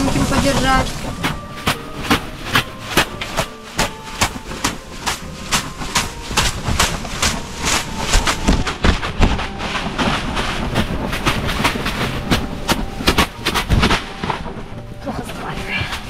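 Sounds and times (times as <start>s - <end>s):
leafy rustle: 0.0s - 16.0s.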